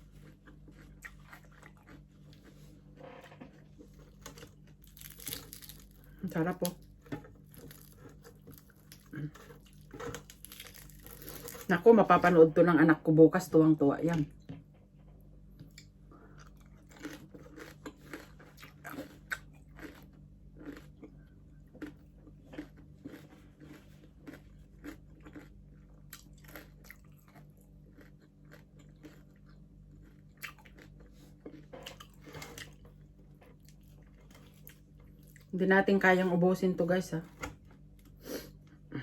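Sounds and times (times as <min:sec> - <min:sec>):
crunchy chewing: 0:00.0 - 0:11.8, 0:15.5 - 0:35.5.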